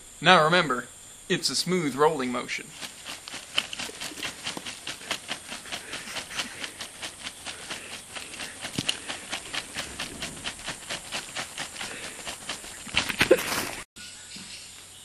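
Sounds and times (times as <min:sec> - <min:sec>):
leaves rattling in a sifter: 0:01.7 - 0:13.9.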